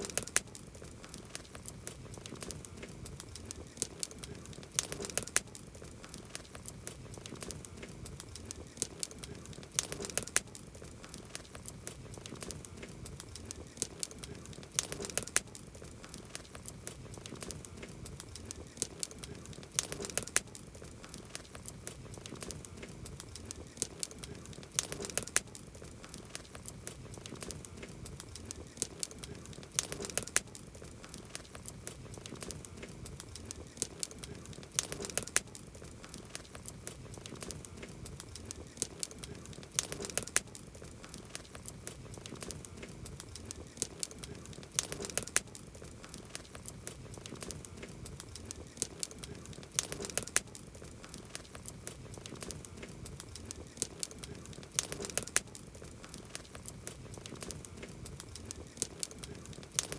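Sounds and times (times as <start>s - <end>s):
campfire crackling: 0.0s - 59.9s
fire pops and snaps: 0.0s - 59.9s.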